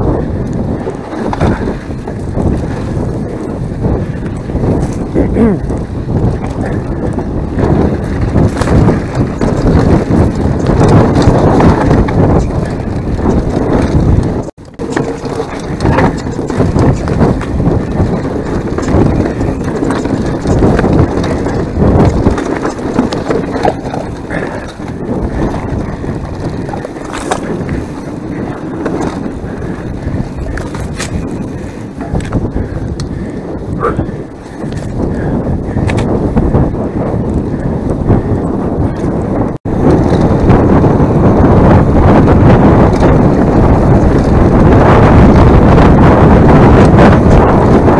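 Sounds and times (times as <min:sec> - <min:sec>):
bike frame rattling and knocking: 0:00.0 - 0:47.9
bike tyres crunching over rocks: 0:00.0 - 0:47.9
wind buffeting microphone: 0:00.0 - 0:47.9.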